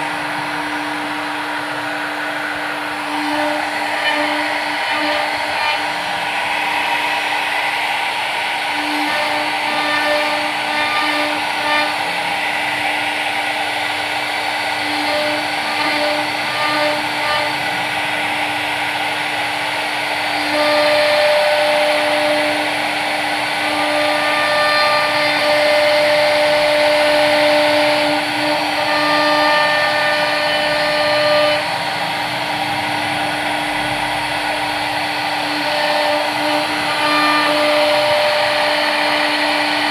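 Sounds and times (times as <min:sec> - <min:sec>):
machine cutting noise: 0:00.0 - 0:39.9
spindle motor whine: 0:00.0 - 0:39.9.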